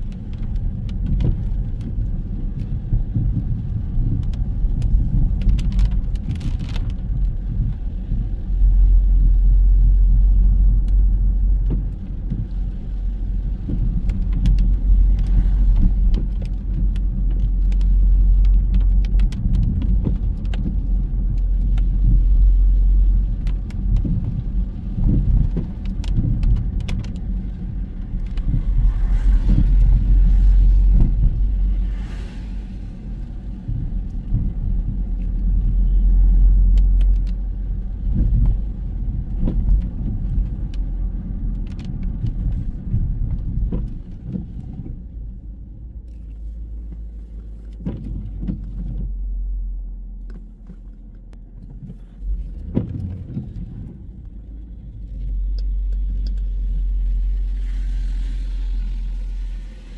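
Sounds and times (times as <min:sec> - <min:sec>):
low rumble of cars: 0:00.0 - 0:59.9.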